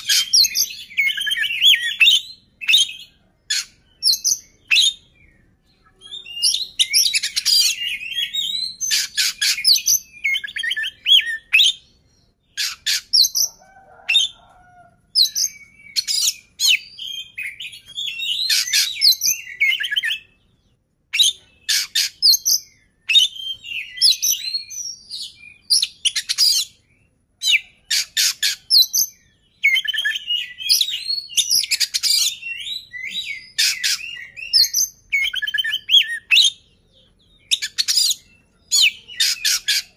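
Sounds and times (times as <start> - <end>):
bird whistling and trilling: 0.0 - 14.4, 15.2 - 20.4, 21.1 - 39.9.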